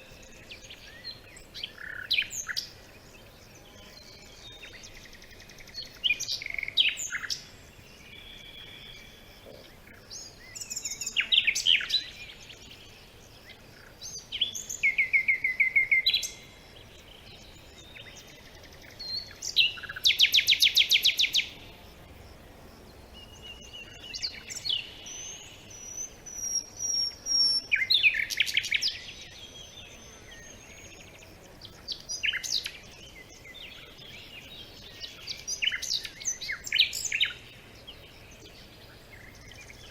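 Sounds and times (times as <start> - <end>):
faint steady background hiss: 0.0 - 39.9
songbirds singing: 0.0 - 39.9.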